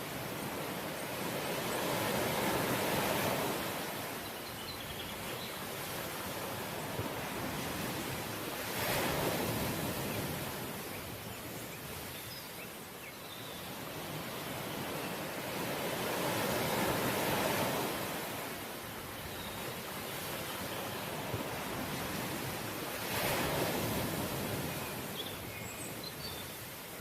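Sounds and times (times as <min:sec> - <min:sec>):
sea waves breaking on shore: 0:00.0 - 0:13.0, 0:13.6 - 0:27.0.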